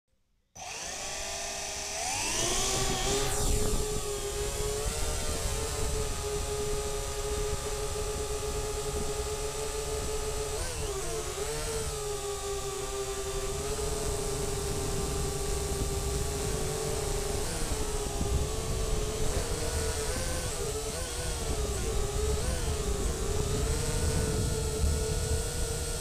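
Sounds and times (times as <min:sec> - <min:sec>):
drone motors whining: 0:00.6 - 0:26.0
low rumble of propeller wash: 0:02.0 - 0:26.0.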